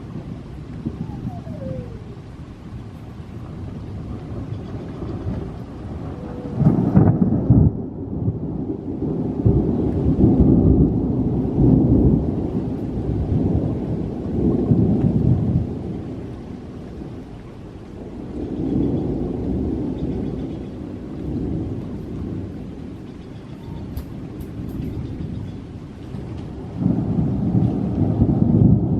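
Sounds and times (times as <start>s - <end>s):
thunder rumbling: 0.0s - 28.9s.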